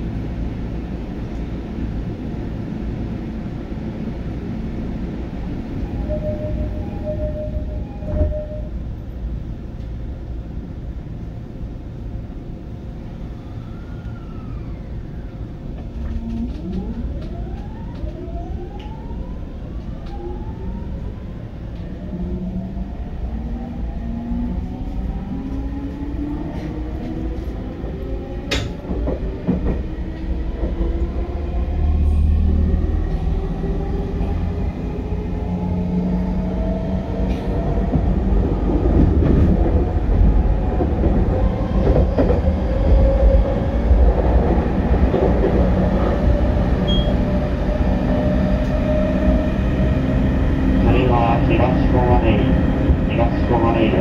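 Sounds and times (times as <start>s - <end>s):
low train rumble: 0.0s - 54.0s.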